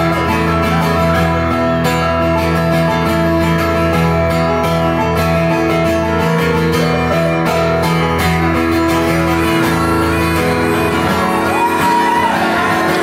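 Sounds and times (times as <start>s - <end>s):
acoustic guitar strumming: 0.0s - 13.0s
electric keyboard: 0.0s - 13.0s.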